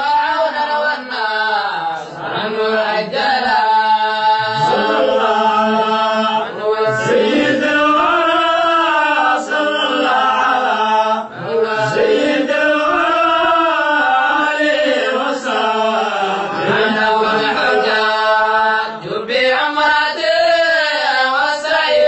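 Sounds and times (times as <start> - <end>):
men chanting: 0.0 - 22.0.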